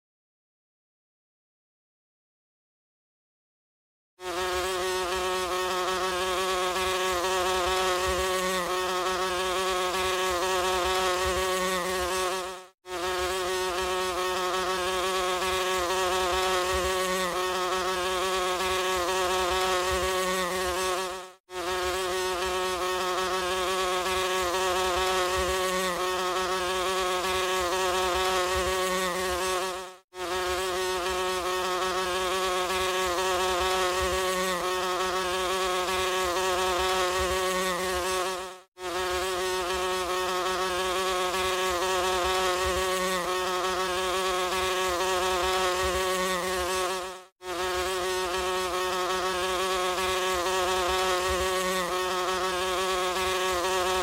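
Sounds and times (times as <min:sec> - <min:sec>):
flies buzzing: 0:04.2 - 0:54.0.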